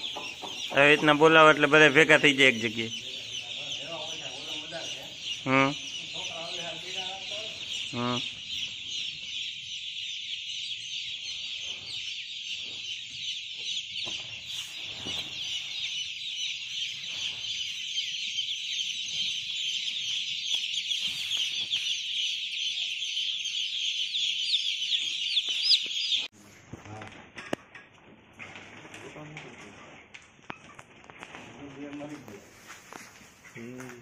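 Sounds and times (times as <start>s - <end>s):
chicks peeping: 0.0s - 26.3s, 26.9s - 34.0s.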